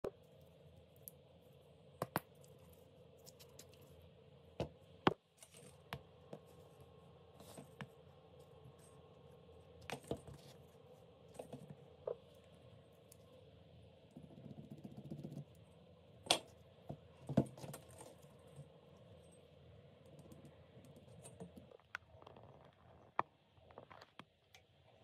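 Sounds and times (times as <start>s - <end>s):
steady low hum: 0.1s - 23.9s.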